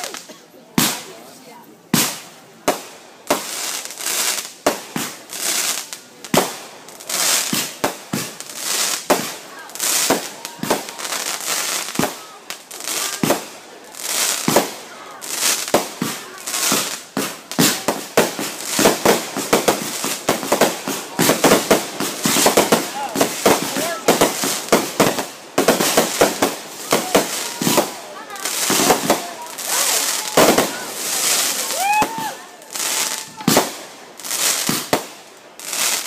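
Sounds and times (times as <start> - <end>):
fireworks bangs: 1.9 - 36.0
fireworks hiss: 1.9 - 36.0.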